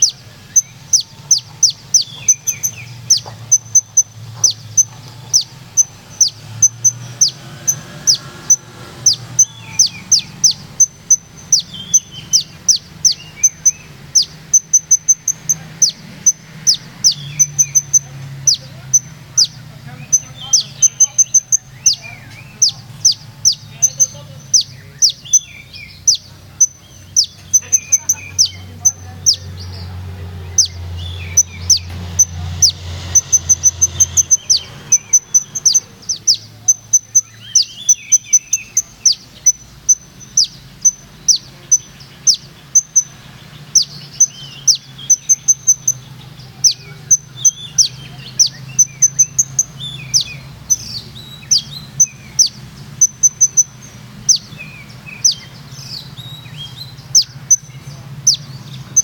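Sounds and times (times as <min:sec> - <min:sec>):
bird singing with trills: 0:00.0 - 0:59.0.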